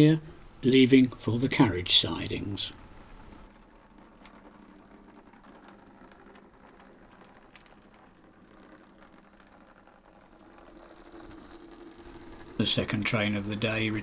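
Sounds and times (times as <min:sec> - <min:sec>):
wheels clicking over track: 0:00.0 - 0:14.0.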